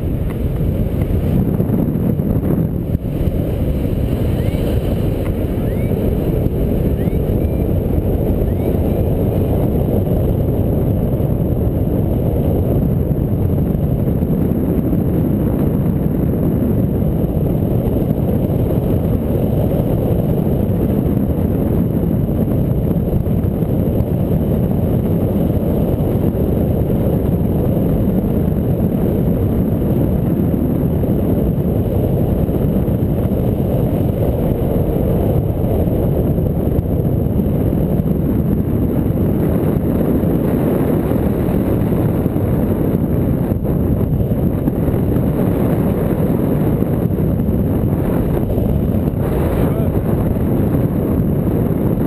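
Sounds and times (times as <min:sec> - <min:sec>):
wind rumble on microphone: 0:00.0 - 0:52.0.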